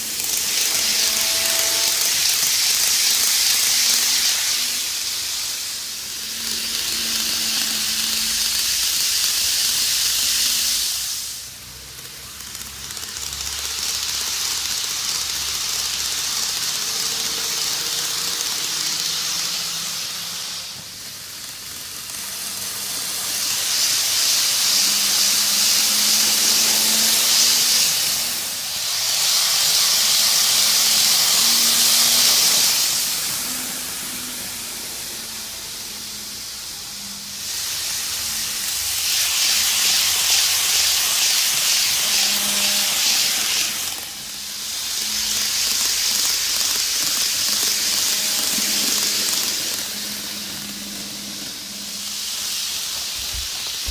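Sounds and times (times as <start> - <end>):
model train whirring on track: 0.0 - 53.9.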